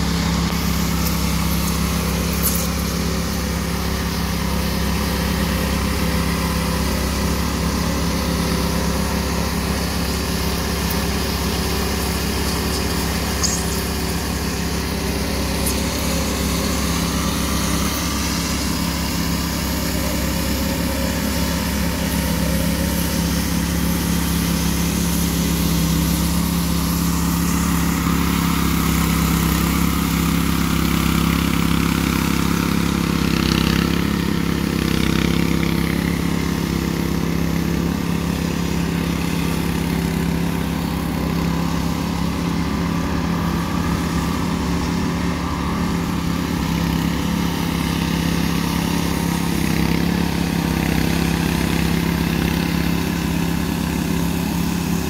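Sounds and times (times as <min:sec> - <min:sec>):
power trowel engines humming: 0:00.0 - 0:55.0.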